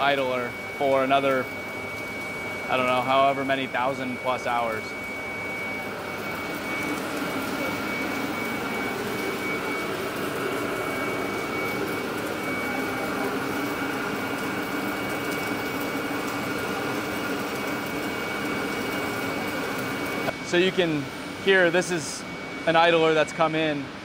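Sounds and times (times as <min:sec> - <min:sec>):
thin high whine: 0:00.0 - 0:24.0
welding machine drone: 0:00.0 - 0:24.0.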